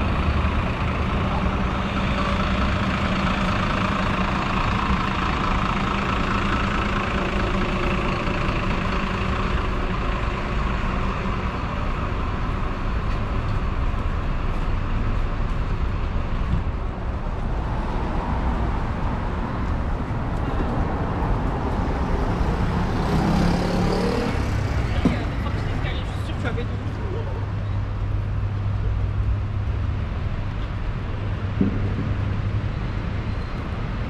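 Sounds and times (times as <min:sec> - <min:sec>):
motor vehicle engines running: 0:00.0 - 0:34.0.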